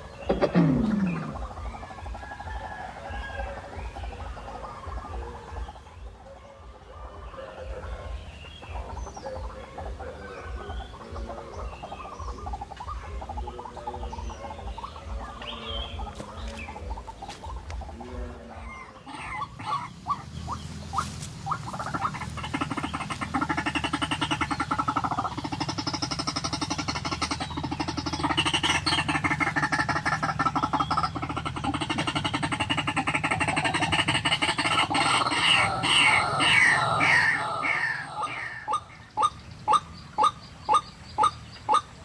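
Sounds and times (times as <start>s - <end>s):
birds chirping and calling: 0.0s - 42.0s.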